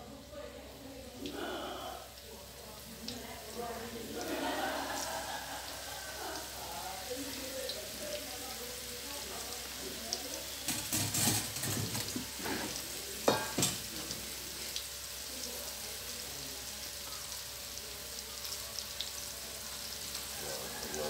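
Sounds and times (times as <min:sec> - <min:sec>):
dumplings sizzling in oil: 0:00.0 - 0:21.0.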